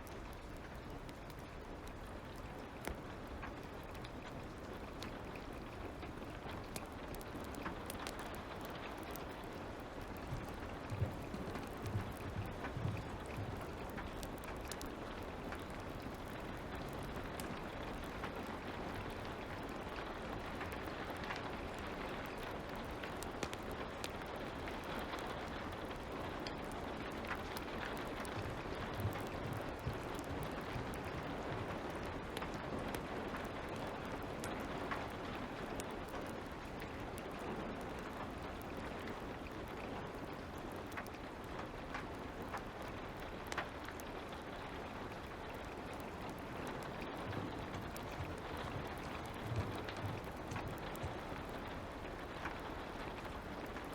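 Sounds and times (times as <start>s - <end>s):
light rain falling: 0.0s - 53.9s
wood fire crackling: 0.0s - 53.9s.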